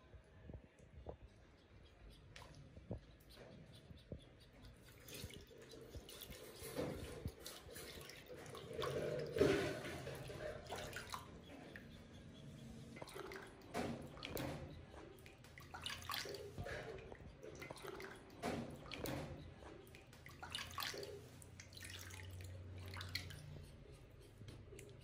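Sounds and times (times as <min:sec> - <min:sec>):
water splashing and dripping: 0:02.1 - 0:11.9, 0:12.8 - 0:23.8.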